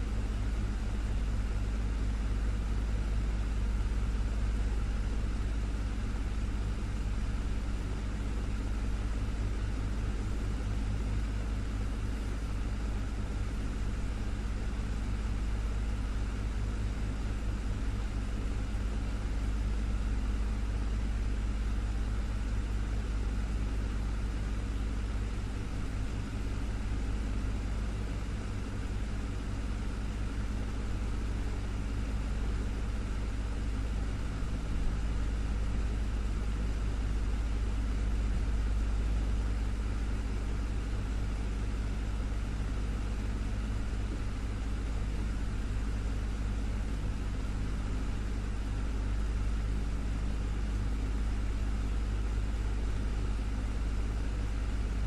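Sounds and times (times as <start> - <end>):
desktop fan running: 0.0 - 55.0.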